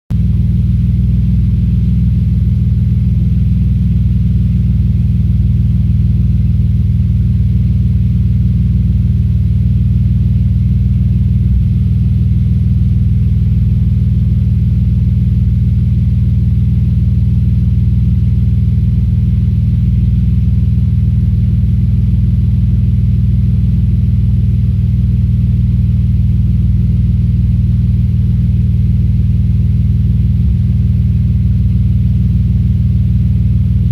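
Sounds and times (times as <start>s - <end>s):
car engine idling with misfire: 0.1s - 33.9s.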